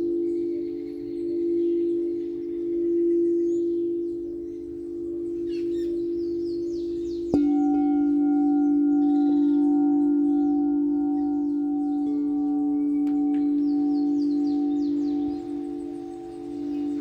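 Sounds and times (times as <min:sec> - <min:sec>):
singing bowl steady tone: 0:00.0 - 0:17.0
singing bowl struck and ringing: 0:00.0 - 0:17.0.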